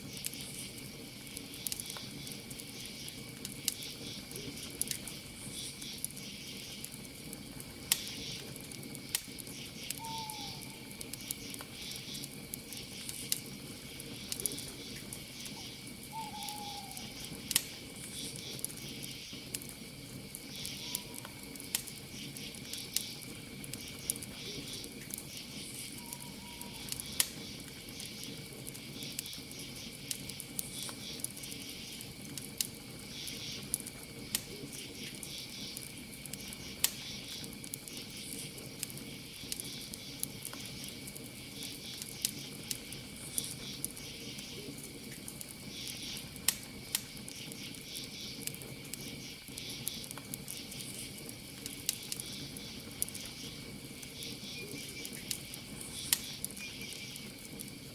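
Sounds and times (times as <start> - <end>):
campfire crackling and popping: 0.0 - 57.9
crickets chirping: 0.0 - 57.9.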